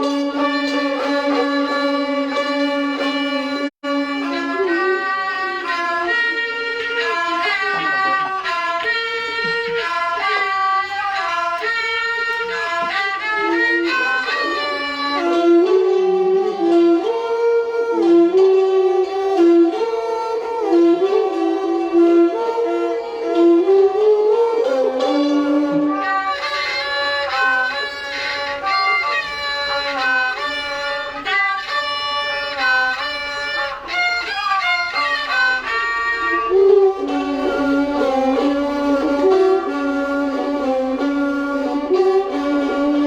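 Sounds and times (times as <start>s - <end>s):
bowed string melody: 0.0s - 43.0s.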